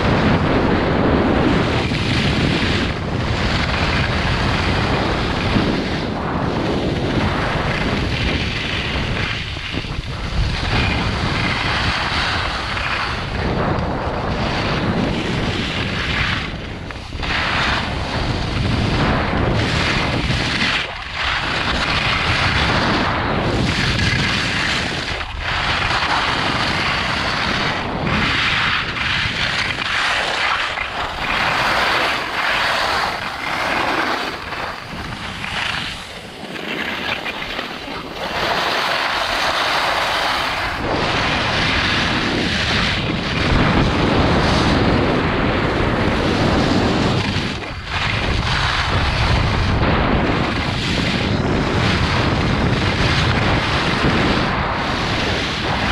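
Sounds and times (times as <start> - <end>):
skis scraping packed snow: 0.0 - 55.9
wind rushing over microphone: 0.0 - 55.9.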